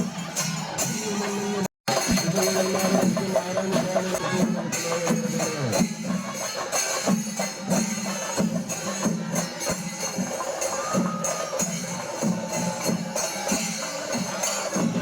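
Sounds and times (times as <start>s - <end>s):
drums and hand cymbals: 0.0s - 15.0s.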